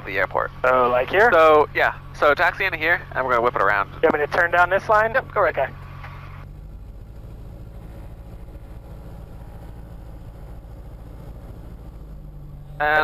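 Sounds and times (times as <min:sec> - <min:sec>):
aircraft piston engine droning: 0:00.0 - 0:13.0.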